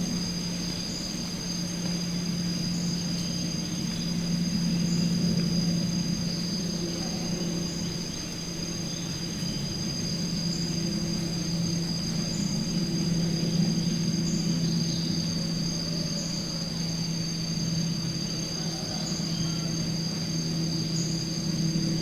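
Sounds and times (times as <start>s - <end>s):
insects trilling: 0.0s - 22.0s
steady low hum: 0.0s - 22.0s.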